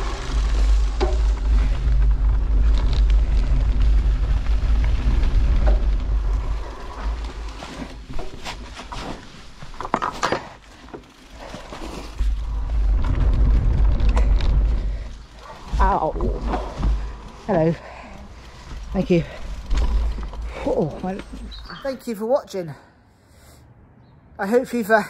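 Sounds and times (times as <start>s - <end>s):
bike tyre rumble: 0.0s - 21.8s.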